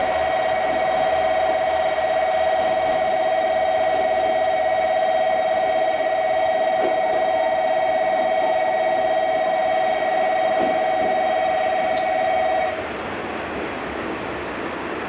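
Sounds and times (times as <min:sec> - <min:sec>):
electronic warning alarm: 0:00.0 - 0:15.0.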